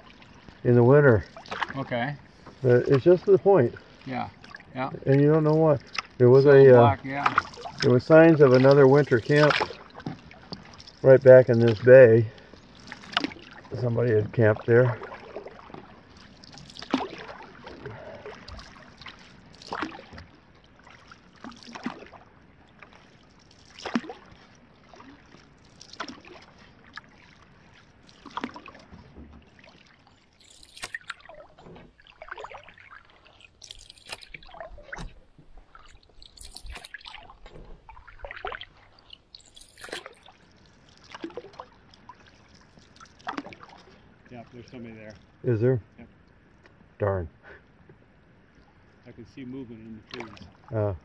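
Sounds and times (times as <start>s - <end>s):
paddle splashing in water: 0.0s - 45.4s, 49.8s - 50.7s
water trickling off paddle: 0.0s - 50.8s.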